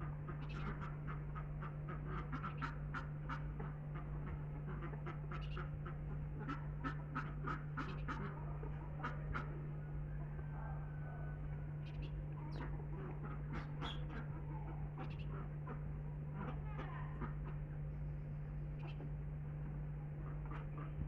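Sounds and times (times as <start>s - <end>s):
ducks quacking: 0.0s - 21.0s
steady low hum: 0.0s - 21.0s.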